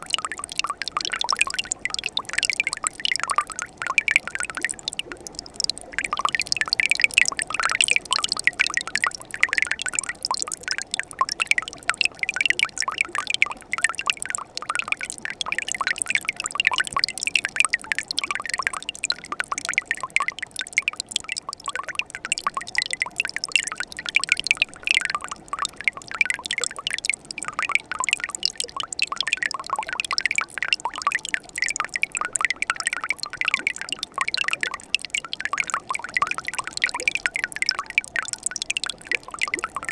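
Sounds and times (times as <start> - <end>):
stream water trickling and splashing: 0.0 - 39.9
water drips and gurgles: 0.0 - 39.9.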